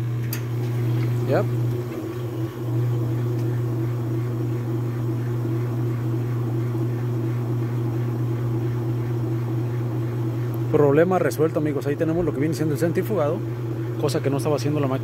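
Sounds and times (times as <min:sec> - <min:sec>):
washing machine spin cycle hum: 0:00.0 - 0:15.0.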